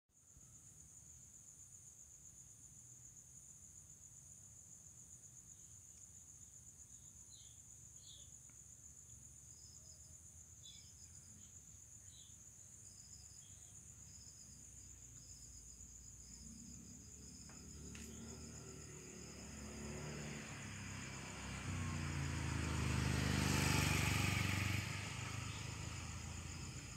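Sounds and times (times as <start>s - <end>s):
high insect chirps: 0.2s - 26.9s
insects trilling: 0.2s - 26.9s.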